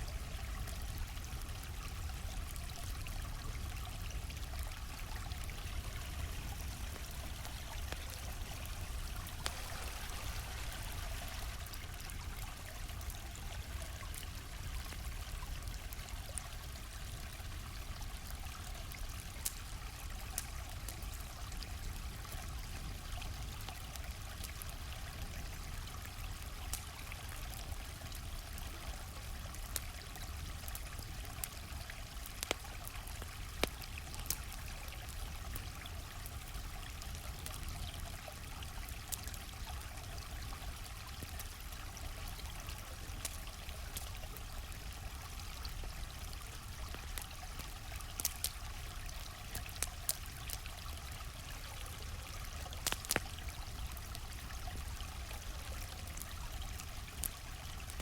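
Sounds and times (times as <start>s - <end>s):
stream trickling: 0.0s - 58.0s
campfire popping and crackling: 0.1s - 58.0s.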